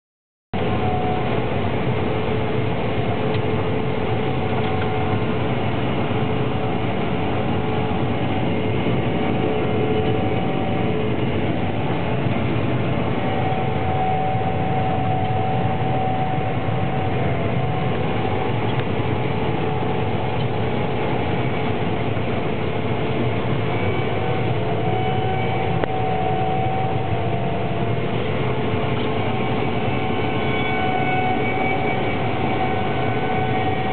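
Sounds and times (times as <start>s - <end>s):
combine harvester engine drone: 0.6s - 33.9s
machinery whining tones: 0.6s - 33.9s.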